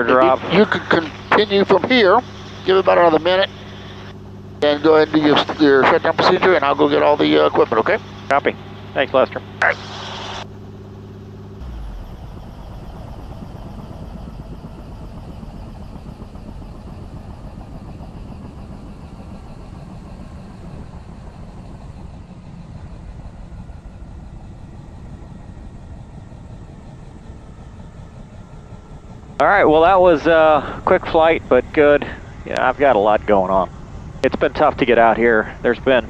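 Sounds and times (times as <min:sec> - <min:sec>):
helicopter idling: 0:00.0 - 0:36.0.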